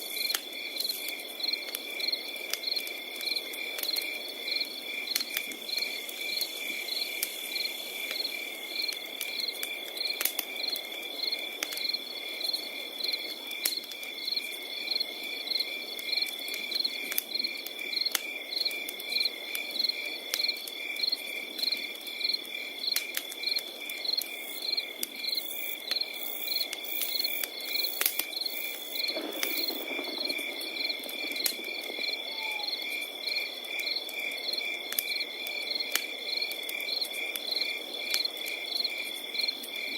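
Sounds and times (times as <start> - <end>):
crackling fire: 0.0 - 39.9
crickets trilling and chirping: 0.0 - 39.9.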